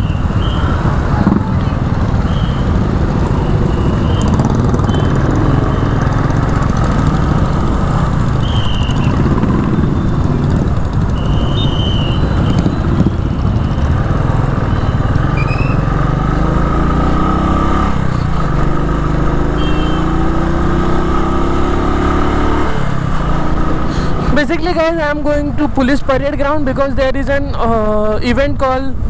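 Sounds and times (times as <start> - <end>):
motorcycle engine accelerating: 0.3 - 25.4.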